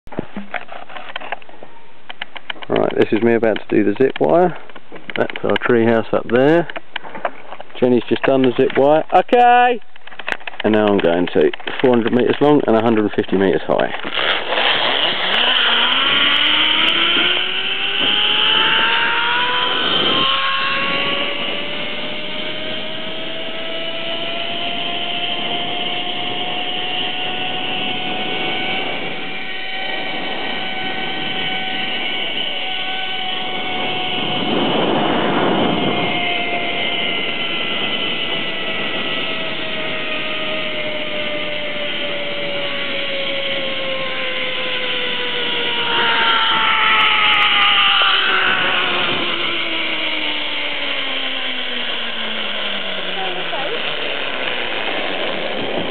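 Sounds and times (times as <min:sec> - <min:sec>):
pulley whine on cable: 0:00.1 - 0:04.2, 0:05.0 - 0:55.9.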